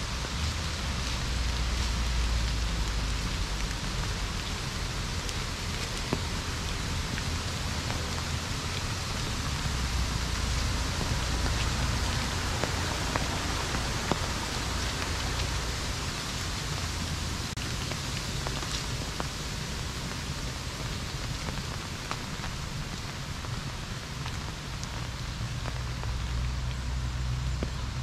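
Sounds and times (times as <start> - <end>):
rain falling on leaves: 0.0 - 28.0
raindrop ticks: 0.1 - 28.0.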